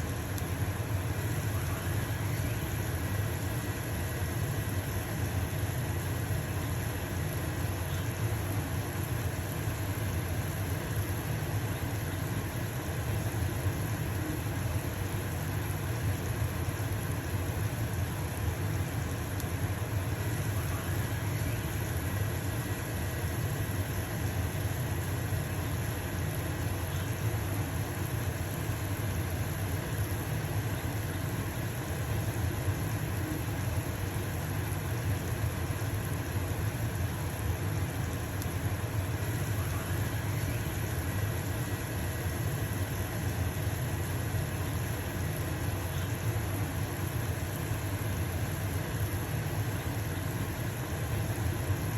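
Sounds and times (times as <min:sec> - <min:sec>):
pancake sizzling in a pan: 0:00.0 - 0:51.9
range hood fan humming: 0:00.0 - 0:51.9.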